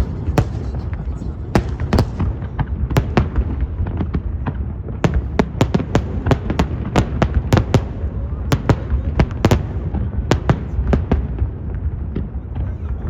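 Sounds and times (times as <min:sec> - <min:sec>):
fireworks cracks: 0:00.0 - 0:13.0
steady low rumble: 0:00.0 - 0:13.0.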